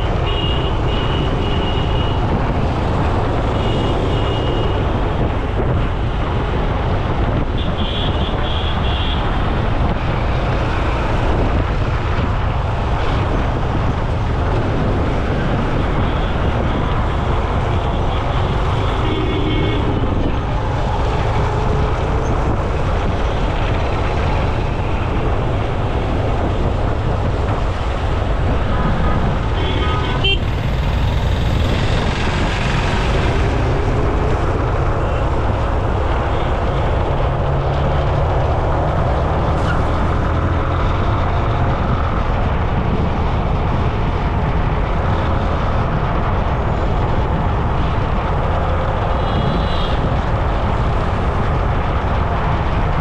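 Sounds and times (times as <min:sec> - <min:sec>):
passing traffic: 0:00.0 - 0:53.0
wind and tyre rumble: 0:00.0 - 0:53.0.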